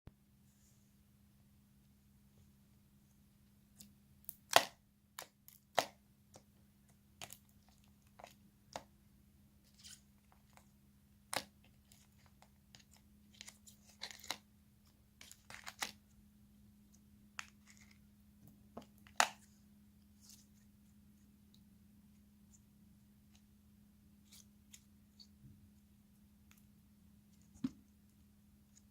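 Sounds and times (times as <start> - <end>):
faint steady hum: 0.1 - 28.9.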